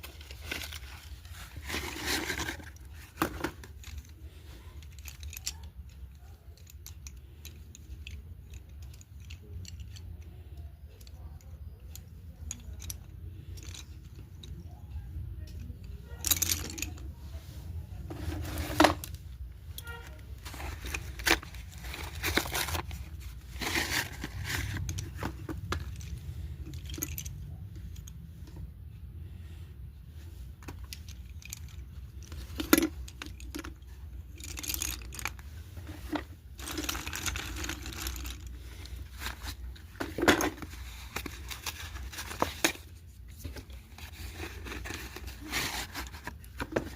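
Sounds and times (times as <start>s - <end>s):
low steady hum: 0.0s - 46.9s.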